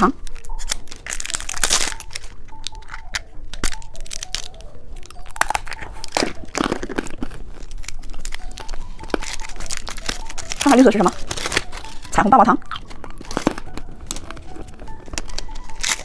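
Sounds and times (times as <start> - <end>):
candy wrapper crinkling: 0.1 - 16.0.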